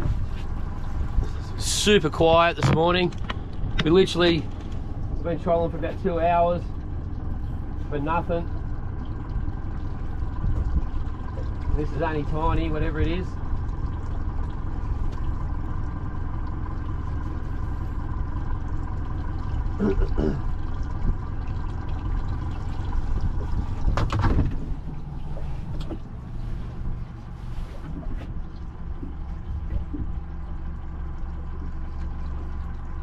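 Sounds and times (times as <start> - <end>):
boat motor humming: 0.0 - 33.0.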